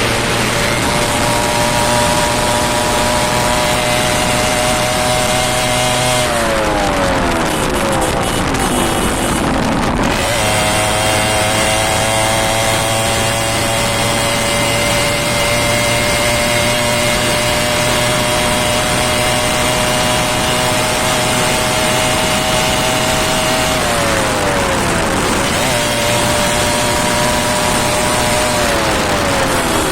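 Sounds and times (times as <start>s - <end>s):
two-stroke engine revving high: 0.0s - 29.9s.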